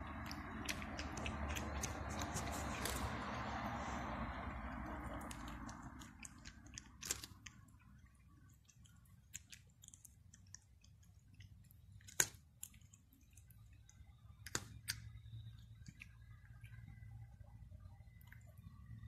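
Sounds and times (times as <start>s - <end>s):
cat crunching dry kibble: 0.0s - 17.0s.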